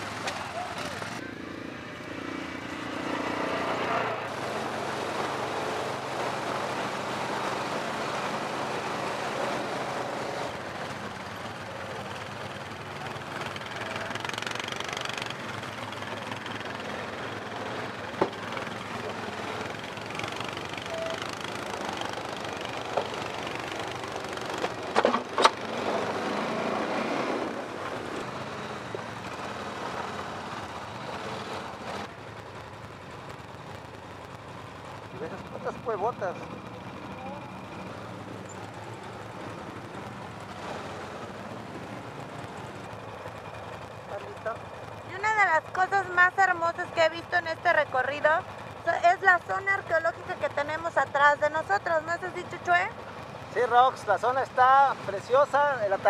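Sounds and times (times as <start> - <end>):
quad bike engines running: 0.0 - 56.0.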